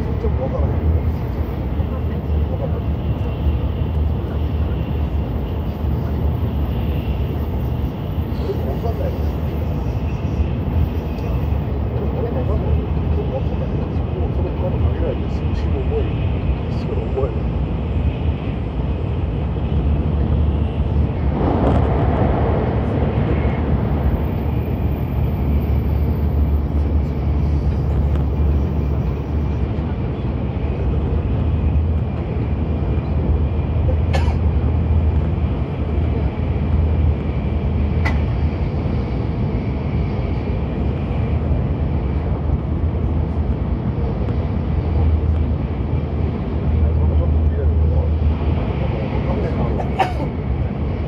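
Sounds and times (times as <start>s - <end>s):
rushing noise: 0.0s - 51.0s
train cabin rumble: 0.0s - 51.0s.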